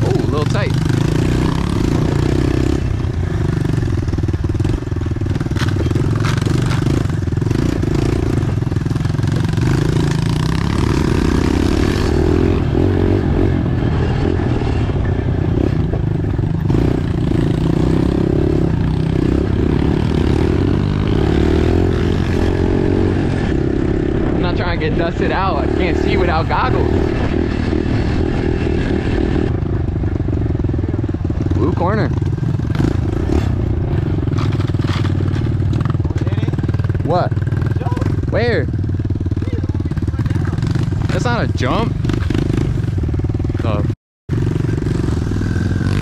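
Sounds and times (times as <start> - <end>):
pit bike engine revving: 0.0 - 46.0.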